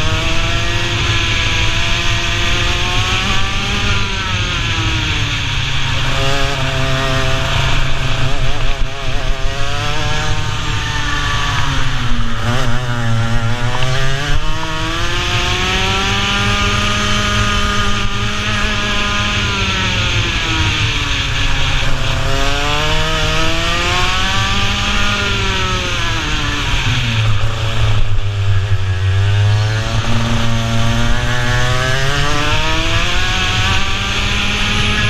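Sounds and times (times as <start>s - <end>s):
racing kart engine: 0.0s - 35.0s.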